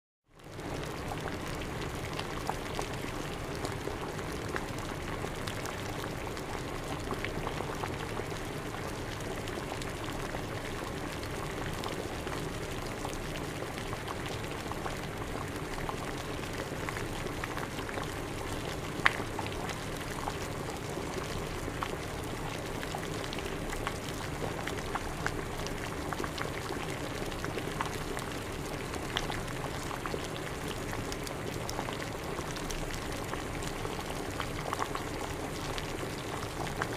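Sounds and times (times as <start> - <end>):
water boiling and bubbling: 0.3 - 36.9.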